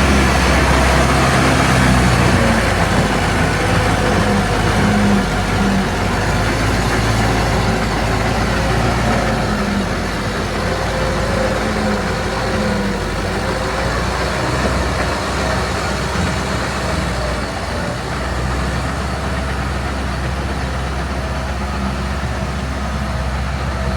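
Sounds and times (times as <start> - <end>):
heavy machine diesel engine running: 0.0 - 23.9.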